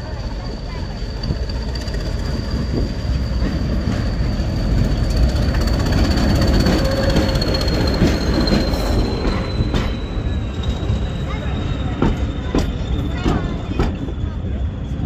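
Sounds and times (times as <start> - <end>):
heavy low train rumble: 0.0 - 15.0
train wheel squeal: 0.0 - 15.0.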